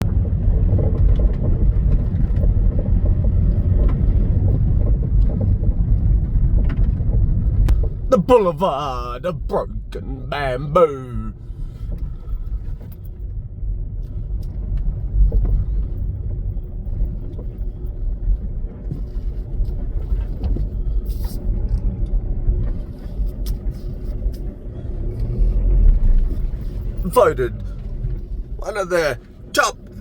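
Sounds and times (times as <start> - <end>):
car engine and tyres rumbling: 0.0 - 8.1, 11.5 - 30.0.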